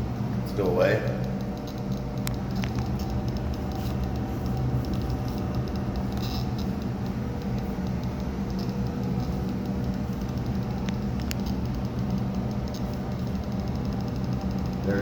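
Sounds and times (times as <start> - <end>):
low mechanical hum: 0.0 - 15.0
faint ticks: 1.2 - 14.9.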